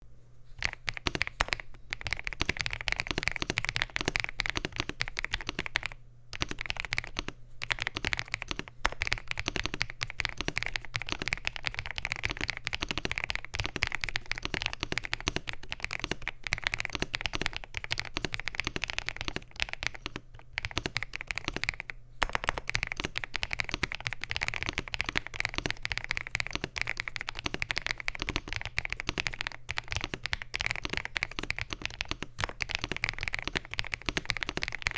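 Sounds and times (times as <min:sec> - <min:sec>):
mechanical keyboard key clacks: 0:00.6 - 0:34.9.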